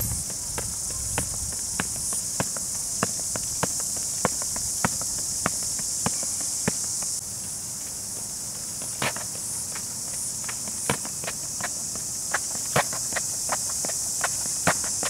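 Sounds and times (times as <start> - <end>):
high insect drone: 0.0 - 15.0
running shoes on track: 0.0 - 15.0.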